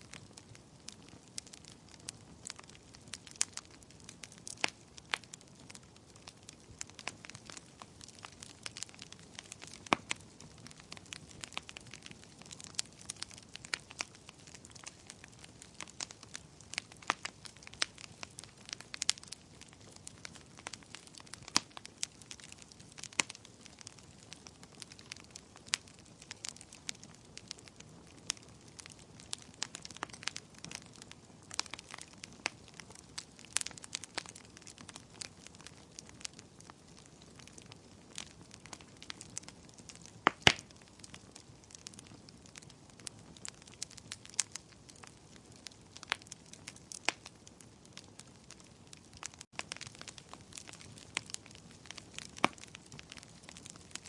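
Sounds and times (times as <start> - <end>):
bonfire crackling: 0.0 - 54.0.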